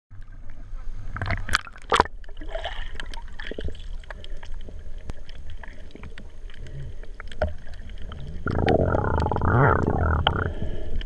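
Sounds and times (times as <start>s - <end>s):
muffled underwater rumble: 0.1s - 11.0s
water splashing and sloshing: 0.1s - 11.0s.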